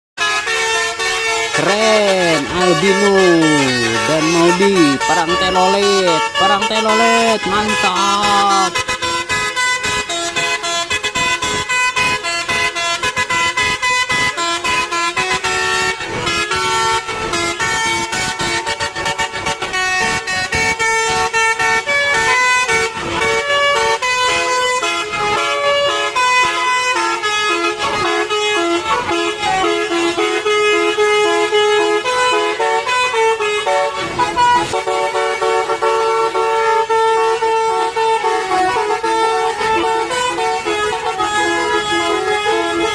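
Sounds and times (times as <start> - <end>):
multi-tone musical bus horns: 0.2 - 42.9.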